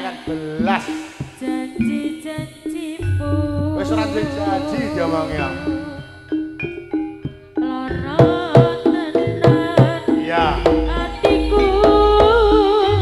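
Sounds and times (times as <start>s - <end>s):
hand drums: 0.0s - 13.0s
tuned percussion beat: 0.0s - 13.0s
wavering melody line: 0.0s - 13.0s
deep drum strokes: 0.2s - 13.0s.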